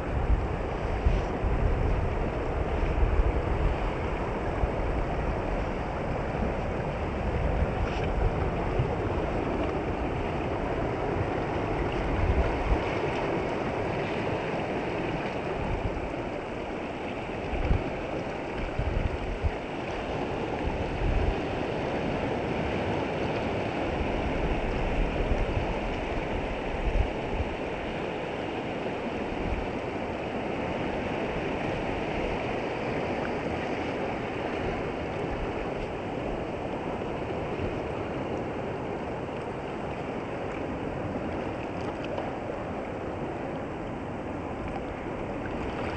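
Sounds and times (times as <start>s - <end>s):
water washing over sand: 0.0s - 45.9s.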